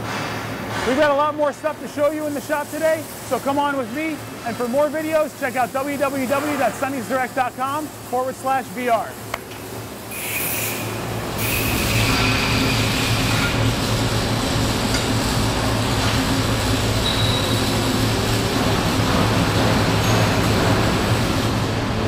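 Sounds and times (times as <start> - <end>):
low mechanical hum: 0.0 - 22.0
welding machinery rushing noise: 0.0 - 22.0.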